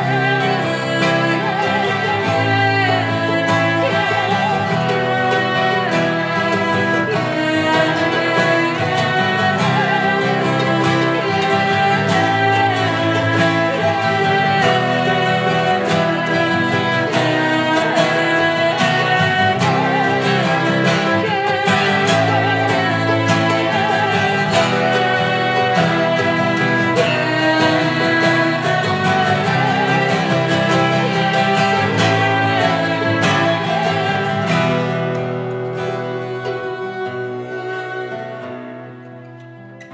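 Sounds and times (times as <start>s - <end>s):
bowed violin: 0.0s - 39.9s
cello: 0.0s - 39.9s
strummed acoustic guitar: 0.0s - 39.9s.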